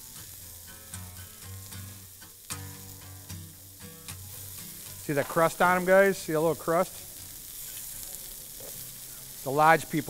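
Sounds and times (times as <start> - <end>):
meat sizzling in a pan: 0.0 - 10.0.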